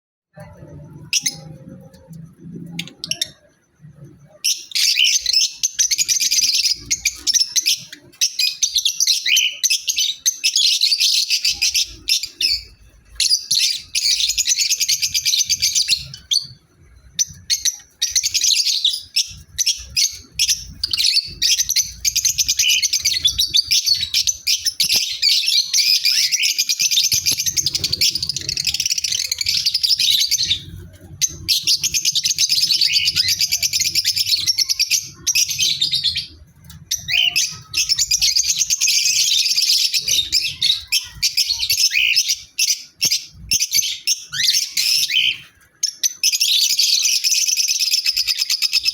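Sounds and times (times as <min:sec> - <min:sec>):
parrots chirping and chattering: 0:00.4 - 0:48.9.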